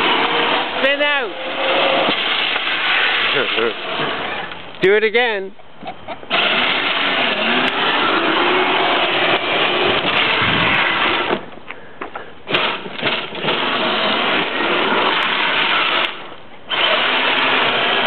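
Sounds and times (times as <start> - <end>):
electric motors whining: 0.0 - 4.7, 6.2 - 11.6, 12.5 - 18.0
plastic wheels rolling on asphalt: 0.0 - 4.9, 5.8 - 18.0.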